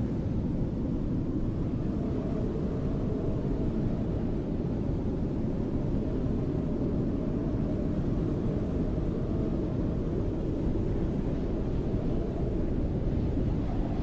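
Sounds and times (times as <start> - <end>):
snowstorm wind blowing: 0.0 - 14.0.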